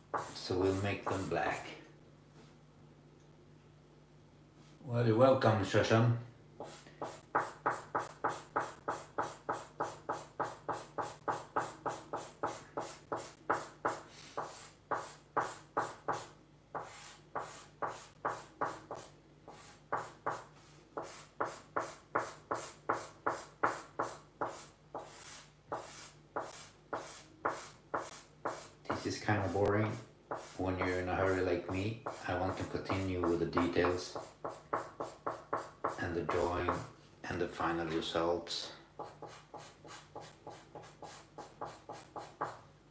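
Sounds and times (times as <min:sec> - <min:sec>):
marker scratching on paper: 0:00.0 - 0:01.6, 0:06.6 - 0:36.5, 0:39.0 - 0:42.6.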